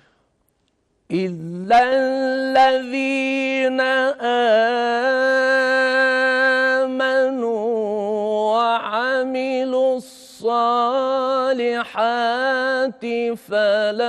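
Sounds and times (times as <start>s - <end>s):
man reciting melodically: 1.1s - 14.0s.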